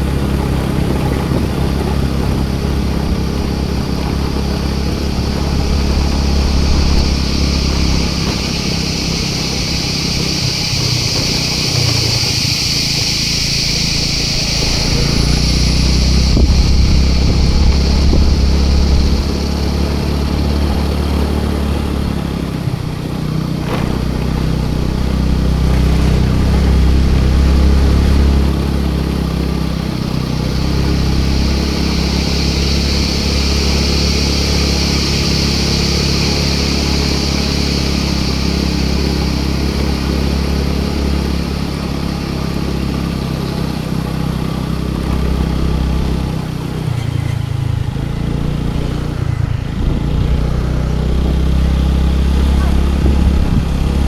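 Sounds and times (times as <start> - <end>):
high steady hiss: 0.0 - 54.0
scooter engine humming: 0.0 - 54.0.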